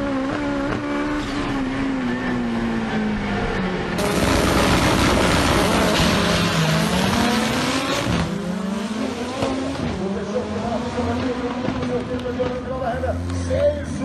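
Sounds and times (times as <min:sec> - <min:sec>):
drag race car engines running: 0:00.0 - 0:14.0.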